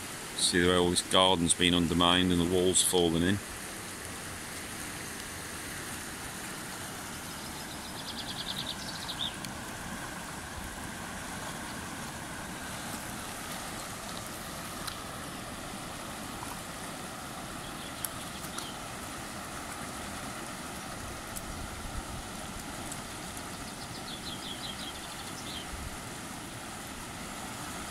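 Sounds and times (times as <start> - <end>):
river water rushing over rapids: 0.0 - 27.9.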